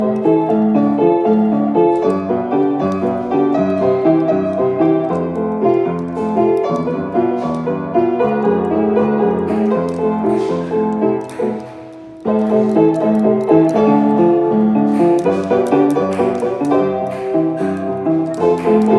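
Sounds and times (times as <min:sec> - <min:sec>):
lively piano melody: 0:00.0 - 0:18.9.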